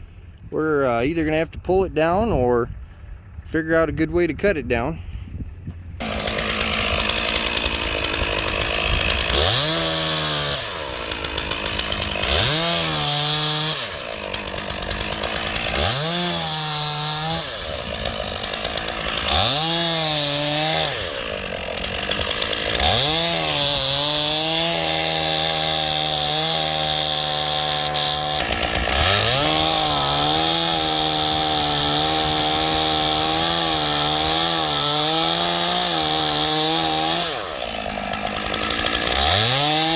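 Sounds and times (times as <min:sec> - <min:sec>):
chainsaw idling and revving: 0:06.0 - 0:39.9.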